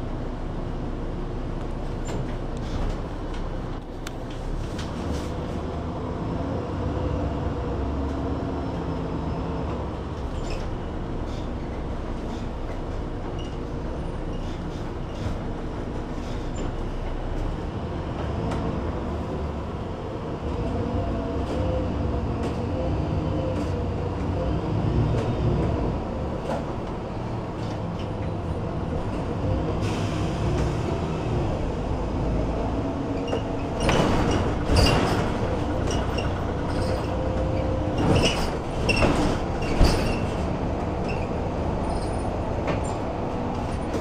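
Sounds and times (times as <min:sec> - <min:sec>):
bus diesel engine rumble: 0:00.0 - 0:44.0
road noise: 0:00.0 - 0:44.0.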